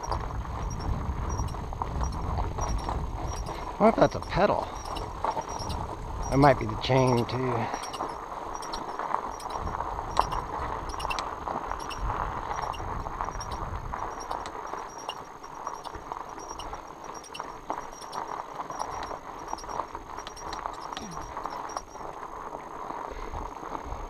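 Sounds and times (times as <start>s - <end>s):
bike clicking and rattling: 0.0s - 23.4s.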